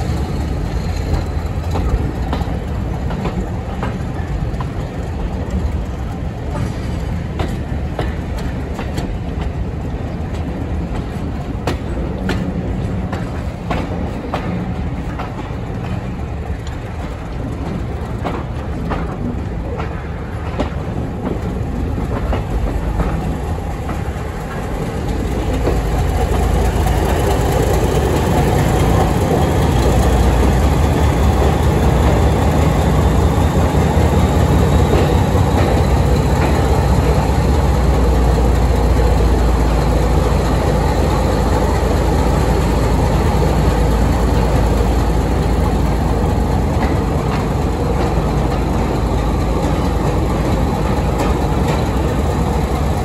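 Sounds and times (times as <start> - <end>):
train rumble: 0.0 - 53.0
wheels clicking over rail joints: 0.0 - 53.0.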